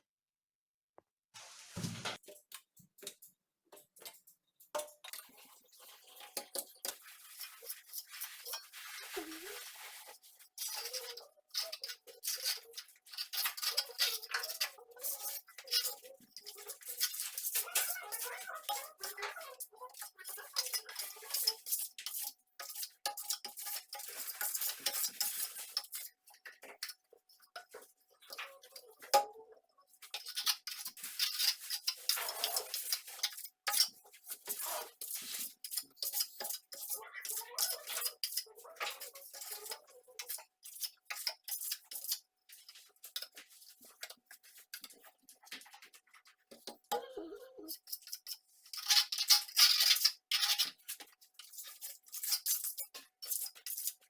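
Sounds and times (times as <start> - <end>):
steel trowel scraping plaster: 5.1 - 29.2, 29.9 - 47.0, 47.7 - 54.0.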